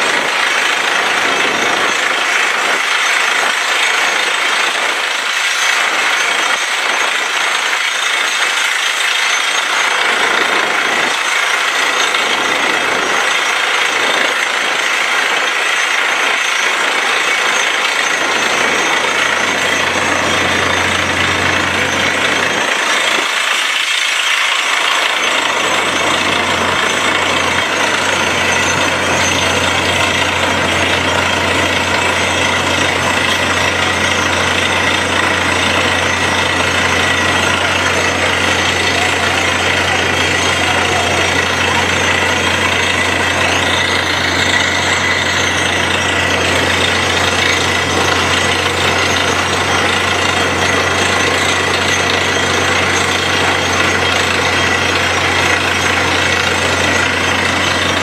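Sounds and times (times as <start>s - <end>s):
drilling rig engine hum: 0.0s - 58.0s
rapid drill hammering: 0.0s - 58.0s.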